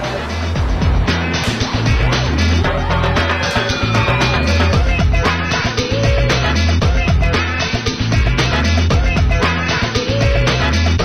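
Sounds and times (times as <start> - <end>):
upbeat funk music: 0.0 - 11.0.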